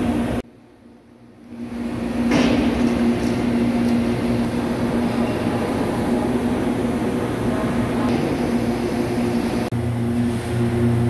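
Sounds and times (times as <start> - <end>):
machine hum with low drone: 0.0 - 11.0.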